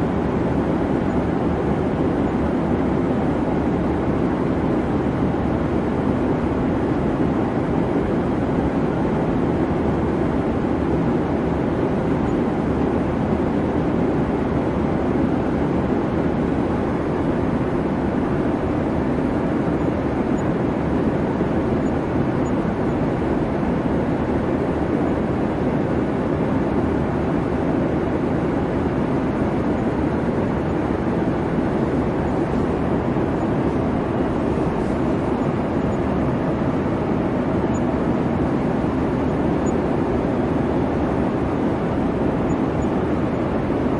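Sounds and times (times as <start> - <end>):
airplane engine drone: 0.0 - 43.9.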